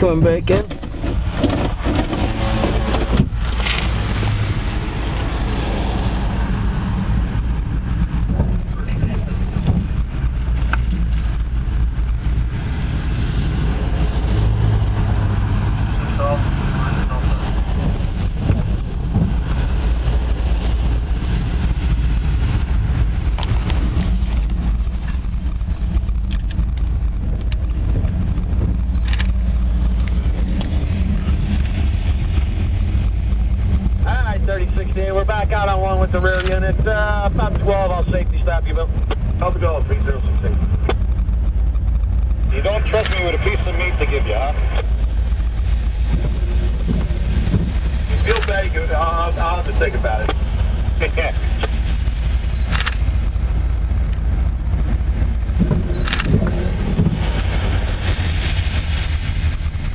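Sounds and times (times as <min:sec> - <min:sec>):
diesel locomotive engine rumbling: 0:00.0 - 0:59.9.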